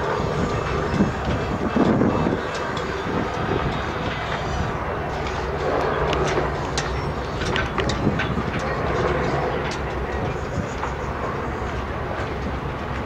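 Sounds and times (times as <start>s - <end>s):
ship diesel engines rumbling: 0.0s - 13.0s.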